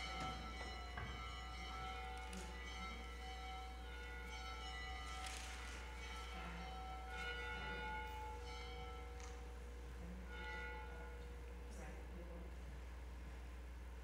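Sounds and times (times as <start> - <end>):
church bell tolling: 0.0 - 12.6.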